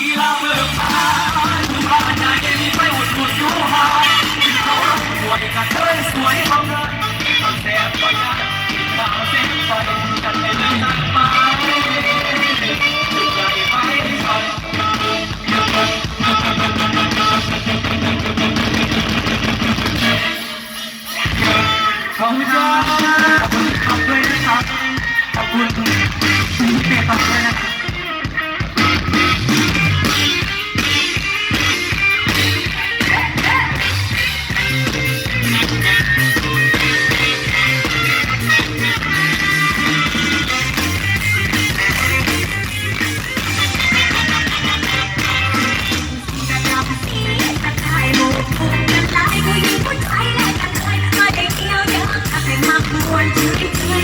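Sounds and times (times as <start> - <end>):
live band music over sound system: 0.0 - 54.0.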